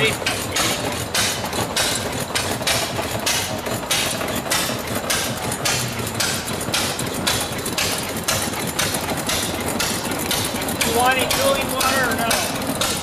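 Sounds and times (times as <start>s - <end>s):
stationary engine clattering: 0.0s - 13.0s.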